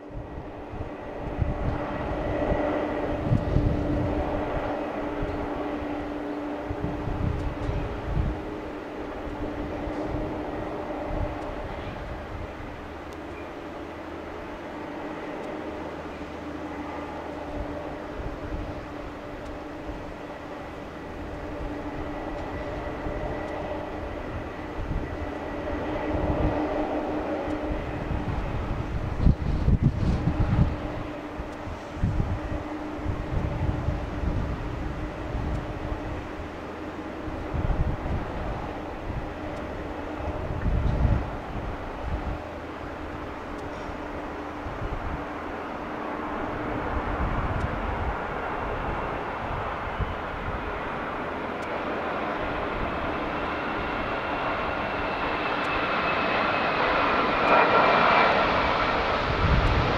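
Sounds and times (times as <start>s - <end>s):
jet engines rumbling: 0.0s - 59.9s
wind buffeting microphone: 0.0s - 59.9s.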